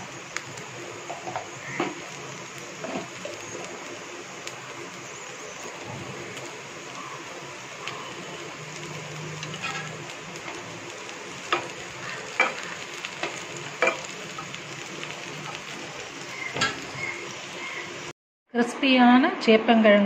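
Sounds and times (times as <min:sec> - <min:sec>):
food sizzling in oil: 0:00.0 - 0:18.1.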